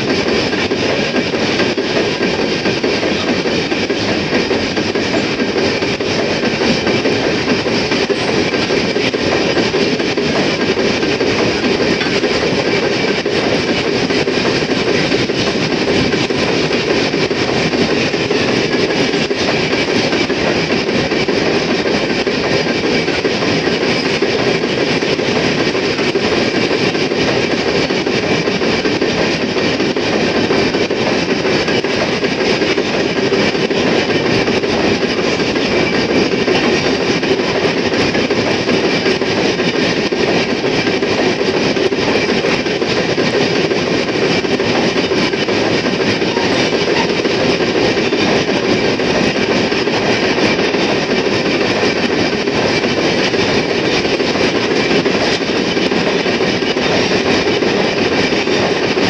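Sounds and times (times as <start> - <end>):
freight train wheels rolling on rail: 0.0 - 59.0.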